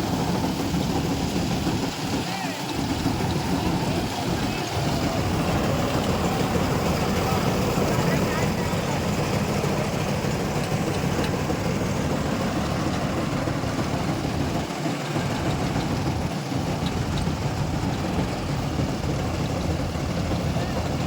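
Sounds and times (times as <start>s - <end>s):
combine harvester engine droning: 0.0s - 21.0s.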